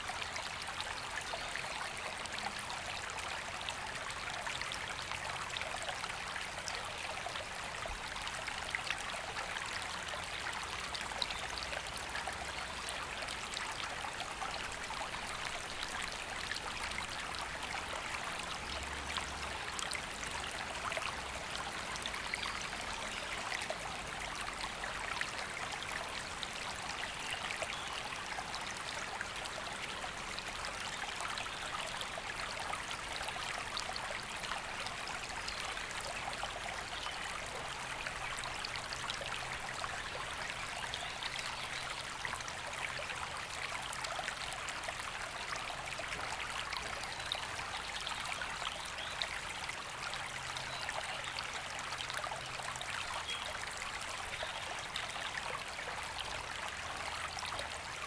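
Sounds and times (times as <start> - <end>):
river water flowing: 0.0 - 58.0
small water splashes and trickles: 0.0 - 58.0.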